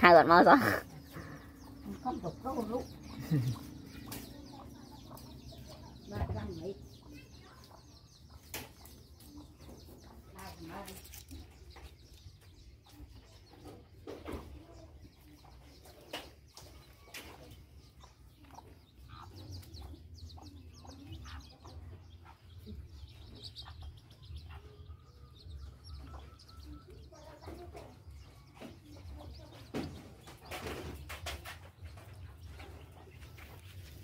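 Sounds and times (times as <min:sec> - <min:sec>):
birds chirping: 0:00.0 - 0:34.0
chickens clucking: 0:00.0 - 0:34.0.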